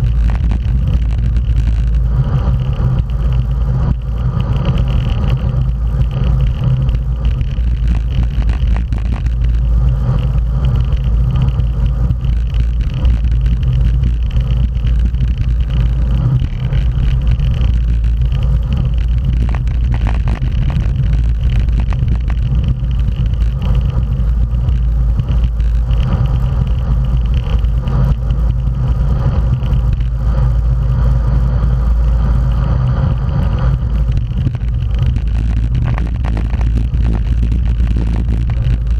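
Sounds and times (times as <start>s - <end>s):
bike road rumble: 0.0s - 38.9s
wind on microphone: 0.0s - 38.9s.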